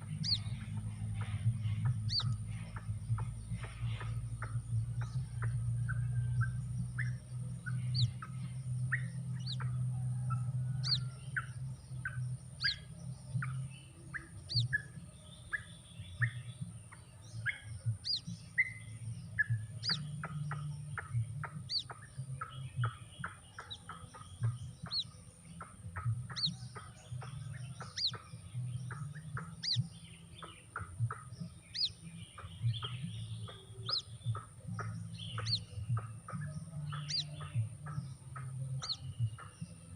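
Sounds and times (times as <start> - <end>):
bird chick peeping: 0.0 - 39.9
low steady hum: 0.0 - 39.9.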